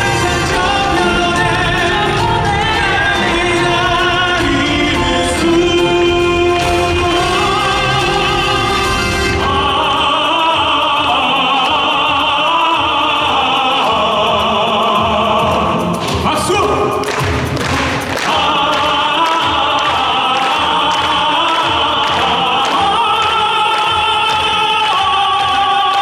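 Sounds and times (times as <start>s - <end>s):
musical accompaniment: 0.0s - 26.0s
operatic singing: 0.0s - 26.0s.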